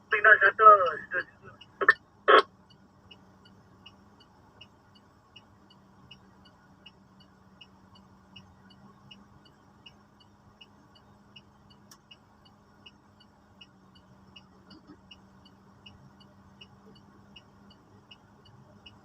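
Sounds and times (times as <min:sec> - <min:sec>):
regular ticking: 0:00.0 - 0:19.0.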